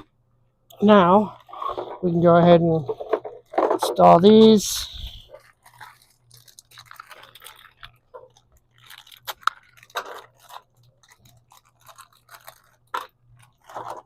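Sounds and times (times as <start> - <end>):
plastic packaging crinkling: 0.8 - 2.2, 2.8 - 14.0.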